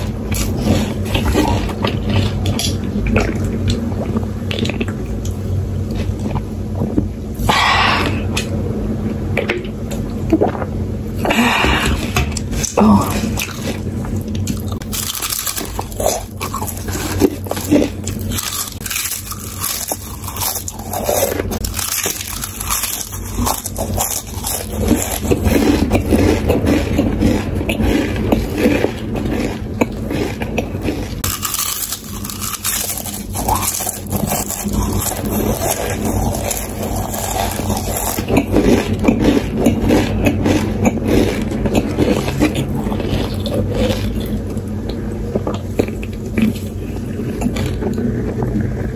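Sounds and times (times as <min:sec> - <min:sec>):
chewing crisp chips: 0:00.0 - 0:08.5, 0:11.3 - 0:48.9.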